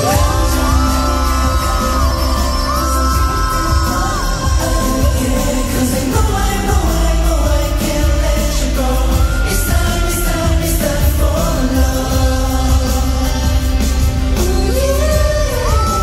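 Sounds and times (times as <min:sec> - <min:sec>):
male group vocals over pop music: 0:00.0 - 0:16.0.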